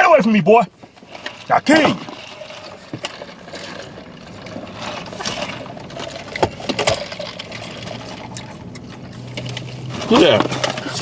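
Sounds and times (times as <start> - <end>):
people chewing: 0.8 - 11.0
paper box rustling: 1.2 - 11.0.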